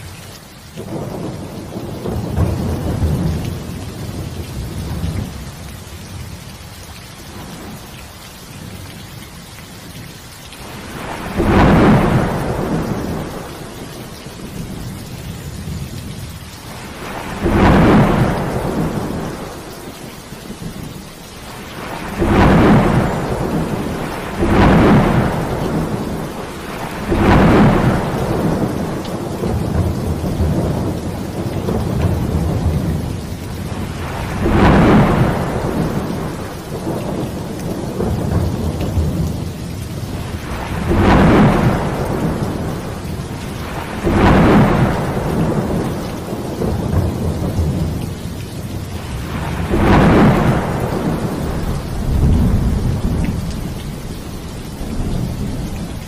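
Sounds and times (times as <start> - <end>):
heavy rain falling: 0.0 - 56.0
thunder rumbling: 0.8 - 6.4, 10.6 - 56.0.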